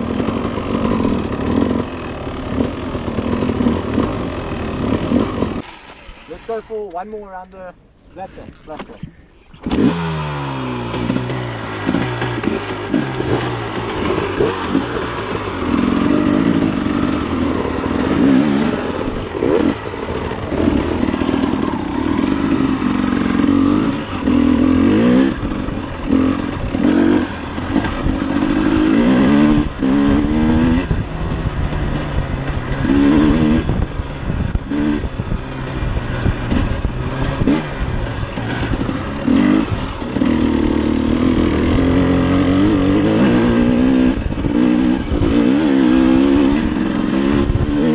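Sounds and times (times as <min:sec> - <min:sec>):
dirt bike engine revving: 0:00.0 - 0:07.5, 0:08.2 - 0:47.9.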